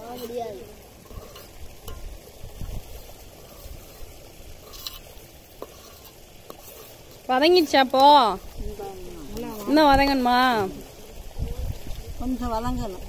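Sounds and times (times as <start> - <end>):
onions sizzling in oil: 0.0 - 11.4.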